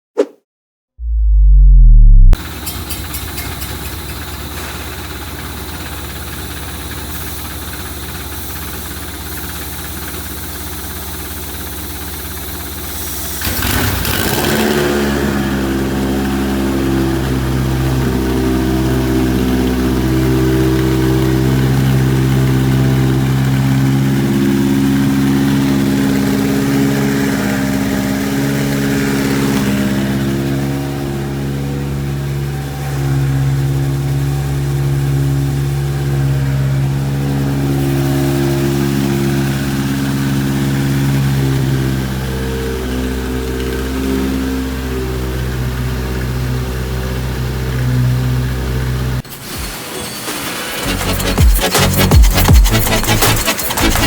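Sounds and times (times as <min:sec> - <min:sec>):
engine starting and idling: 0:01.3 - 0:54.0.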